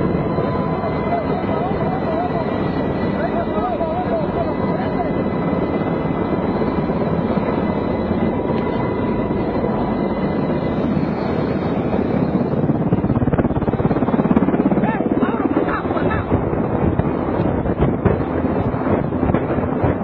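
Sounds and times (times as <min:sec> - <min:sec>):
helicopter engine and rotor: 0:00.0 - 0:20.0
steady whine: 0:00.0 - 0:20.0.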